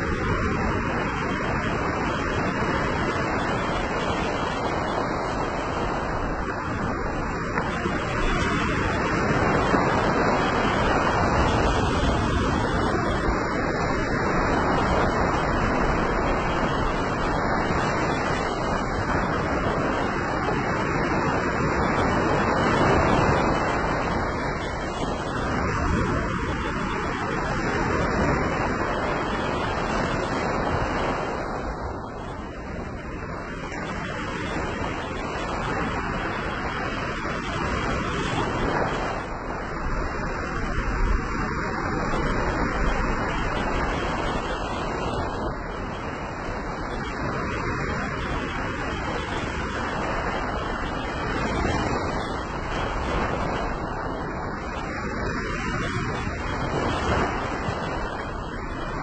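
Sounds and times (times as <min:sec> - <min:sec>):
waves washing up a beach: 0:00.0 - 0:59.0.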